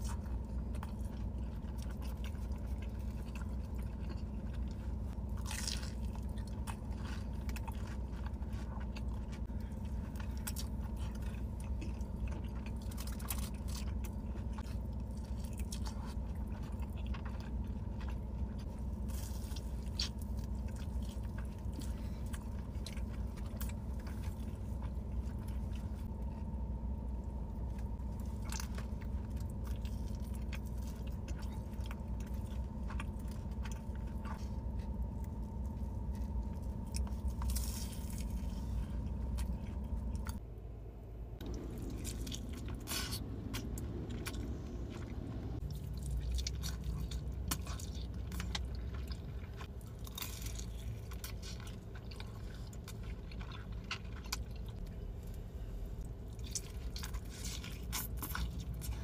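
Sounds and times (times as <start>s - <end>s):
chewing crispy fried food: 0.0s - 40.4s, 41.4s - 59.0s
steady low hum: 0.0s - 59.0s.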